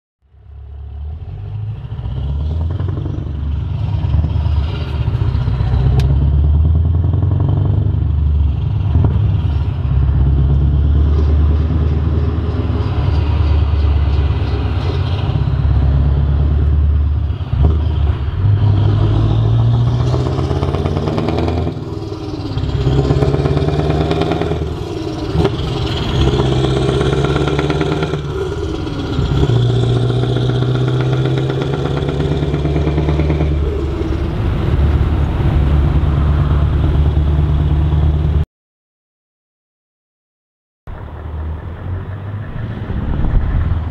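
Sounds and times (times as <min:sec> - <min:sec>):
diesel truck engine accelerating: 0:00.2 - 0:38.4, 0:40.9 - 0:43.9.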